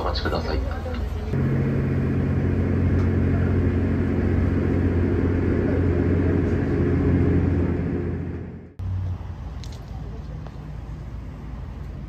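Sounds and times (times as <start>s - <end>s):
diesel railcar engine idling: 0.0s - 12.0s.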